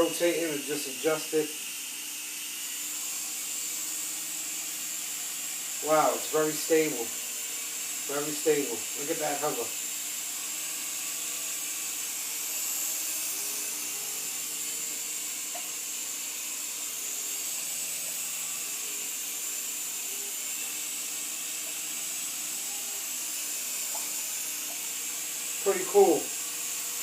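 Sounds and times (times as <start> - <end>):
toy helicopter whirring: 0.0 - 27.0.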